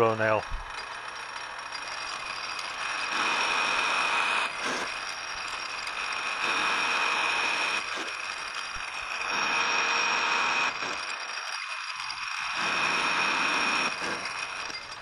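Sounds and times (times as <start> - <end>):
lathe tool cutting metal: 0.0 - 15.0
metal lathe running: 0.0 - 15.0.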